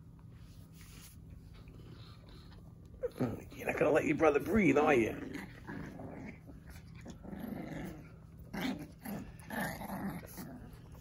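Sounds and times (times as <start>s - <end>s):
puppies growling: 1.4s - 11.0s.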